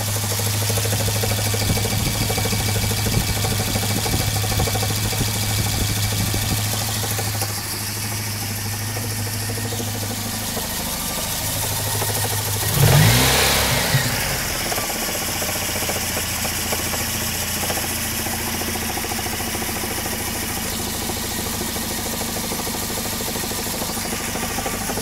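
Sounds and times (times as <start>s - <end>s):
fast clacking from engine: 0.0s - 13.2s, 14.5s - 25.0s
car engine idling and revving: 0.0s - 25.0s.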